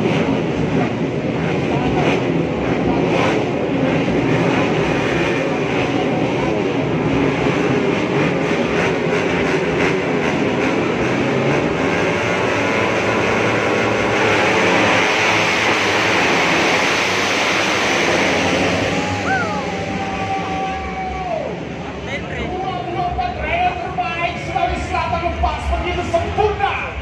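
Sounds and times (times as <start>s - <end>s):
racing motorcycle engines revving: 0.0s - 27.0s.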